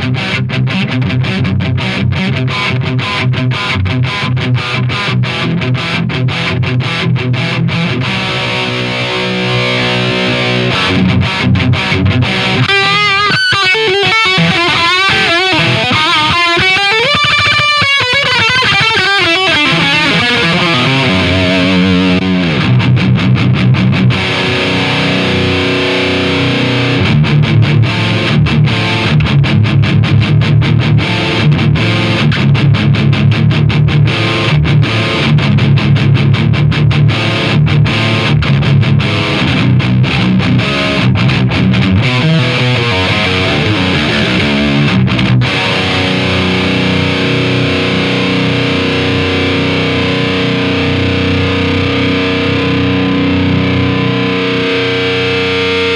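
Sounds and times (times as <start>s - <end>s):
distorted electric guitar: 0.0s - 55.9s.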